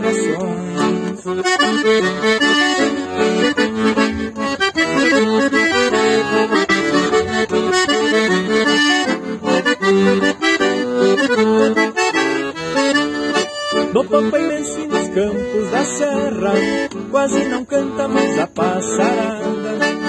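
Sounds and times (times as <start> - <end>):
accordion melody over chords: 0.0 - 20.0.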